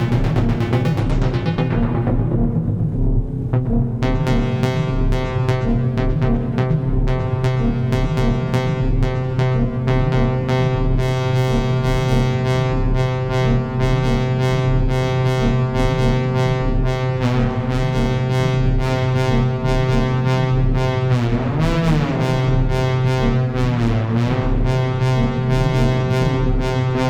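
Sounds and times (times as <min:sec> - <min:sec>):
analog synth drone: 0:00.0 - 0:27.0
steady techno beat: 0:00.0 - 0:27.0.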